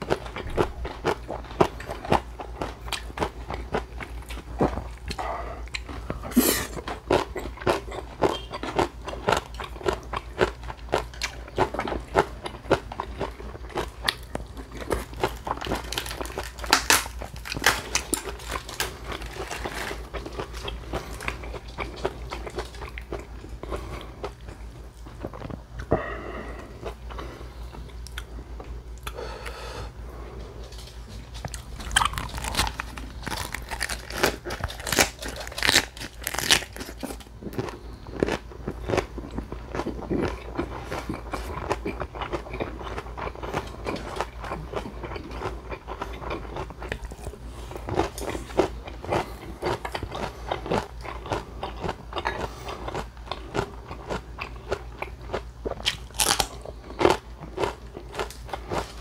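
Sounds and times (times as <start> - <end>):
crisp crunching of cabbage: 0.0 - 25.8, 30.6 - 59.0
wet chewing: 0.0 - 29.5, 30.6 - 59.0.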